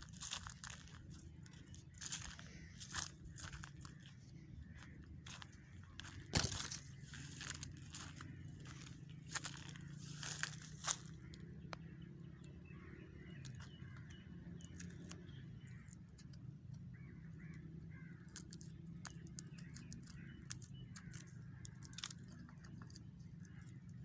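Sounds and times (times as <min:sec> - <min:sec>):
crows cawing: 0:00.0 - 0:16.3, 0:16.9 - 0:23.8.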